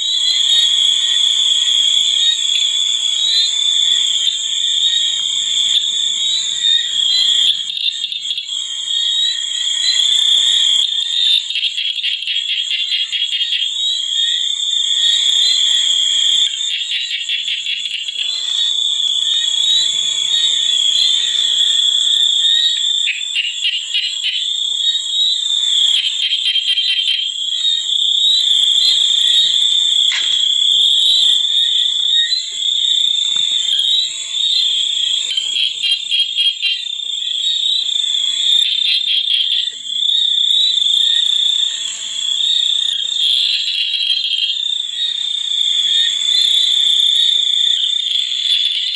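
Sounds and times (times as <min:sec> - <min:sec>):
frogs trilling calls: 0:00.0 - 0:48.9
high-pitched insect drone: 0:00.0 - 0:48.9.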